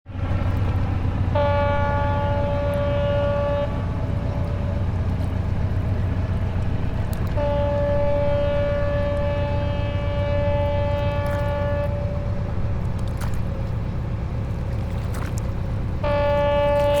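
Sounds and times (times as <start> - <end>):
water: 0.0 - 17.0
boat horn blasts: 0.1 - 14.8, 15.8 - 17.0
low rumble of engines: 0.1 - 17.0.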